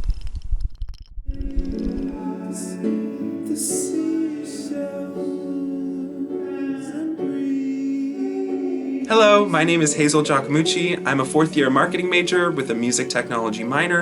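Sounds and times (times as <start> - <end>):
airy hiss swells: 1.3 - 14.0
sustained ambient tones: 1.3 - 14.0.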